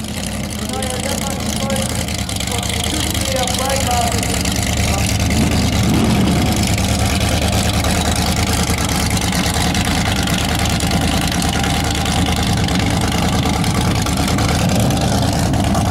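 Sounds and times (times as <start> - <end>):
supercharged engine revving hard: 0.0 - 15.9
tyres spinning: 0.0 - 15.9.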